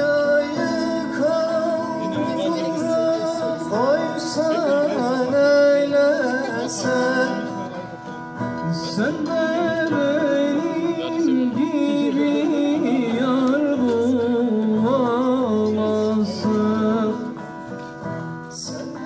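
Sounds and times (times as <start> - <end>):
acoustic guitar: 0.0 - 19.0
man singing into a microphone: 0.0 - 19.0
plucked string instrument: 0.0 - 19.0.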